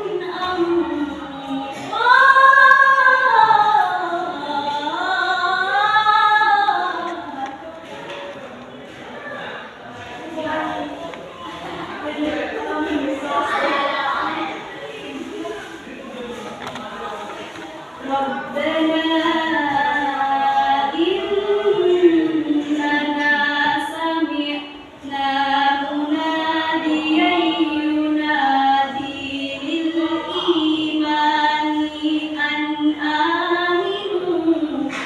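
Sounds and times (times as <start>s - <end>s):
young woman reciting melodically: 0.0s - 8.4s, 9.9s - 35.0s.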